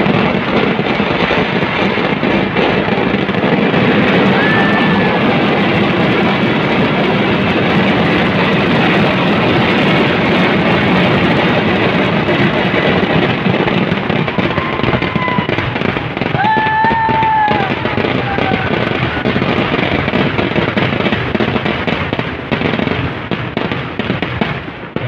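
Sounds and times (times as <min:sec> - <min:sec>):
continuous fireworks explosions: 0:00.0 - 0:25.0.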